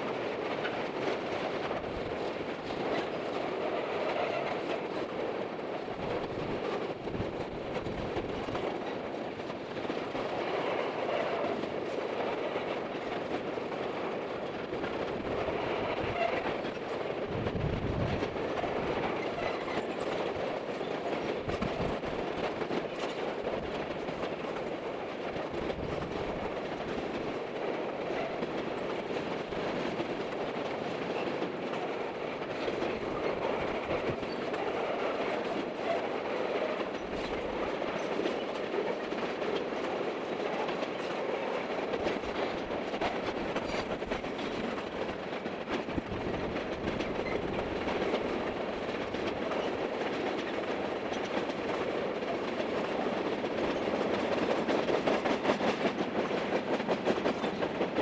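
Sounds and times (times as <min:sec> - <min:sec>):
steel wheels clattering on rails: 0:00.0 - 0:58.0.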